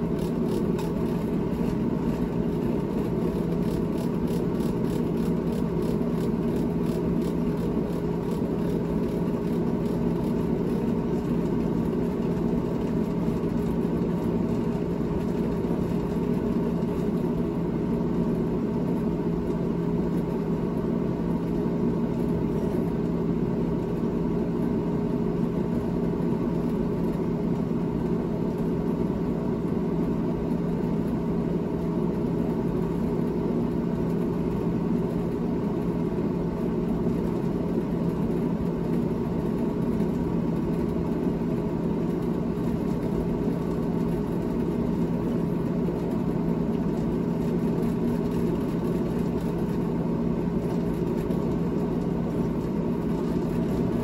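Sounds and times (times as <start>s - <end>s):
refrigerator fan droning: 0.0s - 54.0s.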